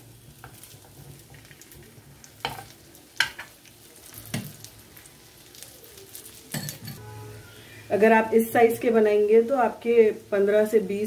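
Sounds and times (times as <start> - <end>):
cookies sizzling in a pan: 0.0 - 11.0.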